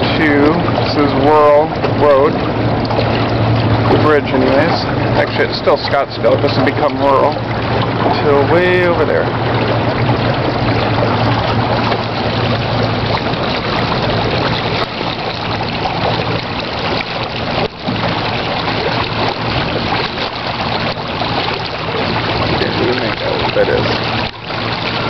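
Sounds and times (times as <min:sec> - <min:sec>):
boat motor humming: 0:00.0 - 0:25.0
water splashing along hull: 0:00.0 - 0:25.0.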